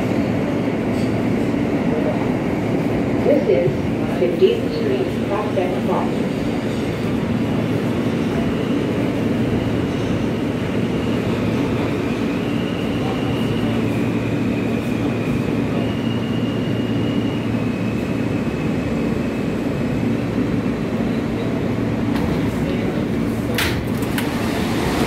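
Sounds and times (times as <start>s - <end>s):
subway train rumble and rattle: 0.0s - 25.0s.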